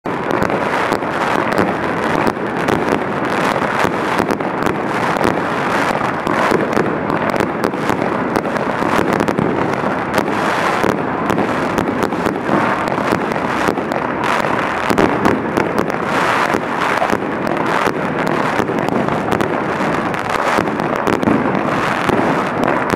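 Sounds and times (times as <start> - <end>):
fireworks crackling and popping: 0.0 - 22.9.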